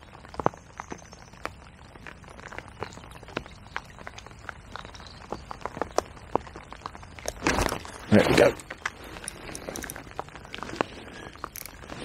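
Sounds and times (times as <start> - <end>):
raindrops tapping: 0.0 - 12.0
rainfall hiss: 0.0 - 12.0.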